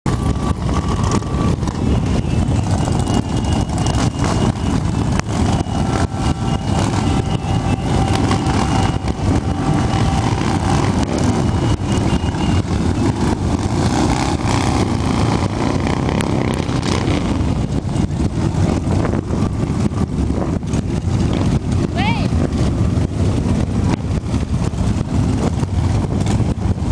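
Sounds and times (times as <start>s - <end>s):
motorcycle engines running: 0.0s - 26.9s.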